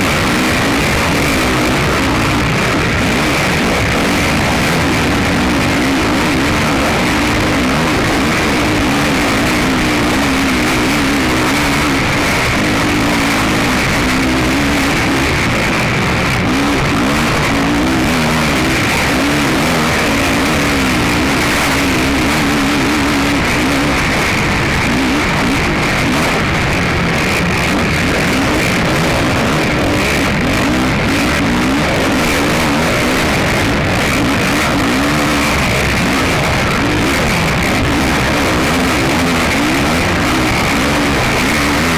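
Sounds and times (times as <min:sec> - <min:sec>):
quad bike engine revving: 0:00.0 - 0:41.9.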